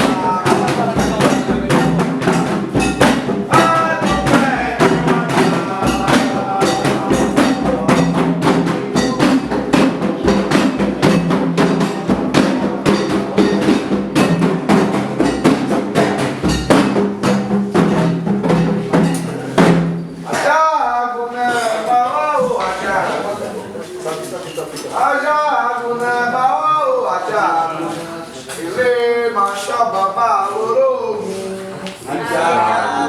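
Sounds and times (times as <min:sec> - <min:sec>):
hand drums and percussion: 0:00.0 - 0:20.7, 0:21.4 - 0:28.0
singing above drumming: 0:00.0 - 0:24.1, 0:24.9 - 0:33.0.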